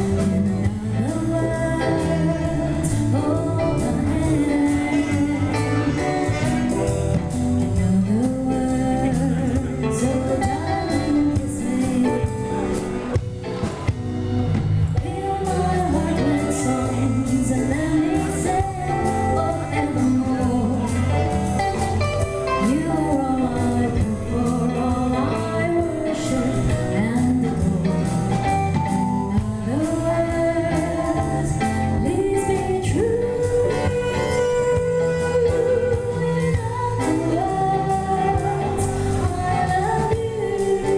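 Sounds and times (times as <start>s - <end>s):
woman singing into microphone: 0.0s - 13.3s, 14.9s - 40.9s
keyboard and guitars: 0.0s - 40.9s.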